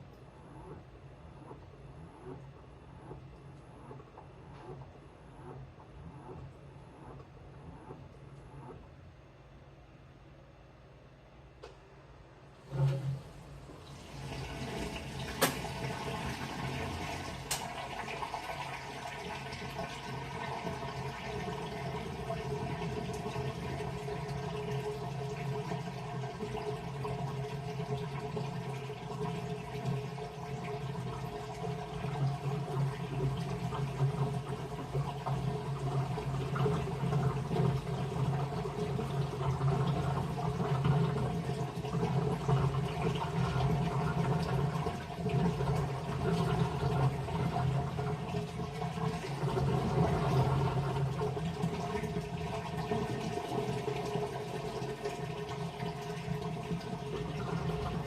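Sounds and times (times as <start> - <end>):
water sloshing in washing machine: 0.0 - 9.0, 12.6 - 58.0
washing machine motor hum: 0.0 - 58.0.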